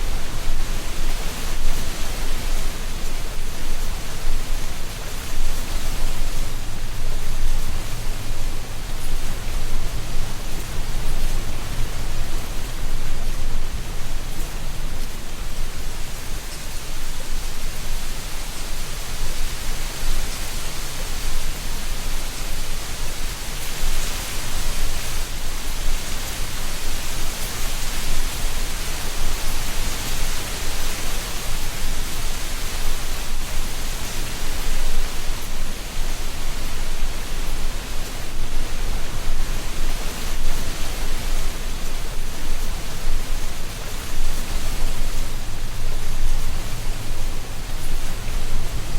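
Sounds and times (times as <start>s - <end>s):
wind rustling dry leaves: 0.0s - 48.9s.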